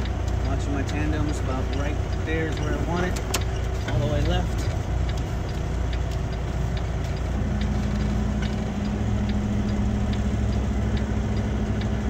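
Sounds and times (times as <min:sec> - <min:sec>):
diesel engine at low revs: 0:00.0 - 0:12.0
light regular ticking: 0:00.0 - 0:12.0.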